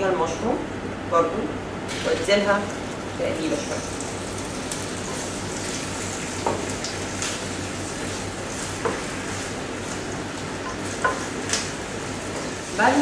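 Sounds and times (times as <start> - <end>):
garlic and mushrooms sizzling in pan: 1.9 - 13.0.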